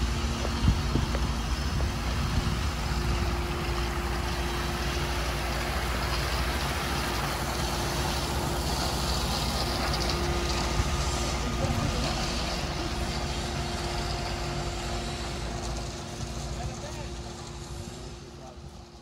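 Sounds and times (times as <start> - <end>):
fountain jets splashing: 0.0 - 19.0
low engine hum: 0.0 - 19.0.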